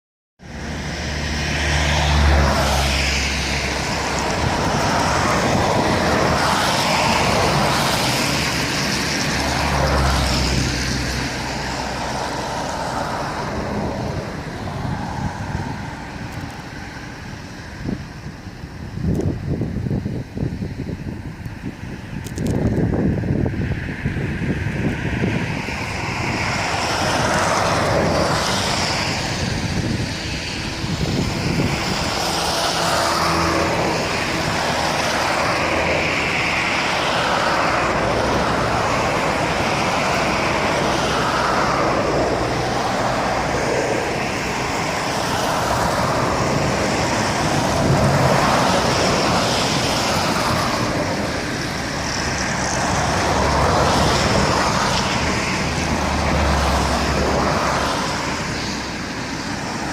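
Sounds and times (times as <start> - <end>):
train rumbling: 0.5 - 23.0, 24.2 - 59.9.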